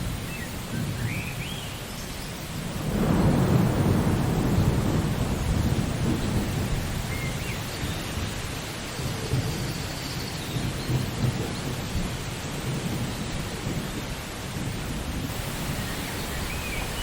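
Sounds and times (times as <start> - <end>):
heavy rain: 0.0 - 17.0
rolling thunder rumble: 2.5 - 17.0.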